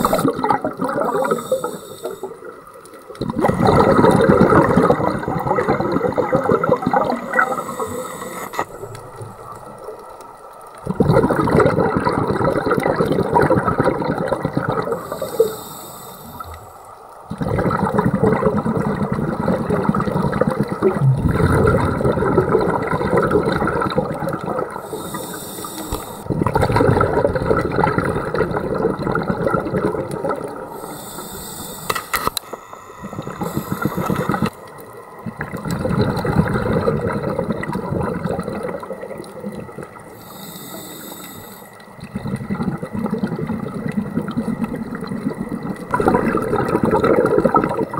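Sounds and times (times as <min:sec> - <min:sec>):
underwater air bubbles gurgling: 0:00.0 - 0:47.9.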